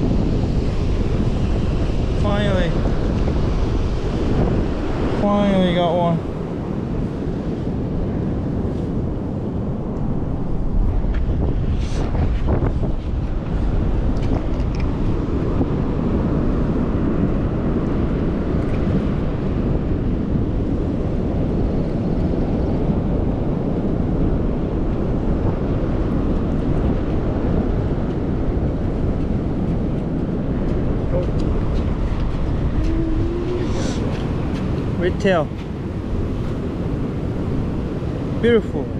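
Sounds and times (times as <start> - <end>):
ocean surf: 0.0 - 38.9
wind rumbling on microphone: 0.0 - 38.9.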